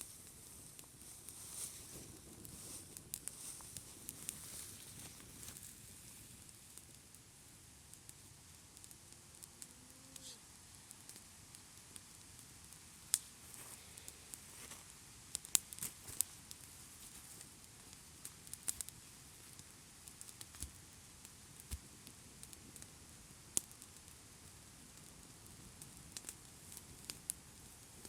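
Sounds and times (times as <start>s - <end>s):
crackles and sharp clicks: 0.0s - 28.0s
faint steady hiss: 0.0s - 28.0s.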